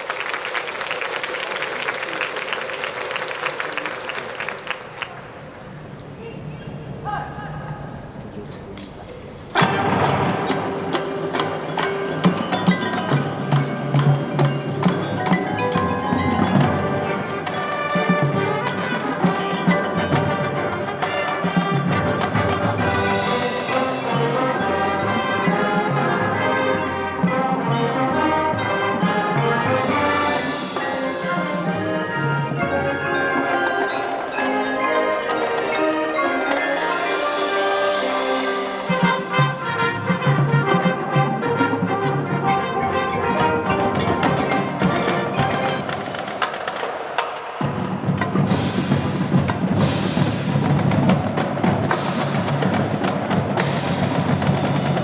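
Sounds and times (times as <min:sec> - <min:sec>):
marching band playing: 0:00.0 - 0:06.0, 0:09.3 - 0:55.0
marimbas and xylophones: 0:09.6 - 0:55.0.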